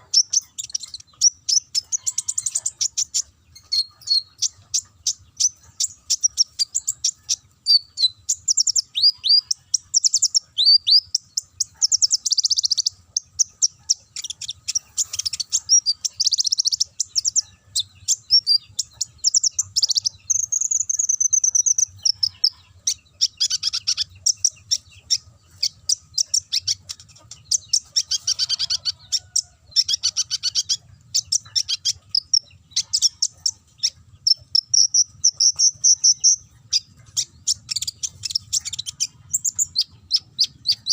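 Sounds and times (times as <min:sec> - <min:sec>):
bird singing chips and trills: 0:00.0 - 0:40.9.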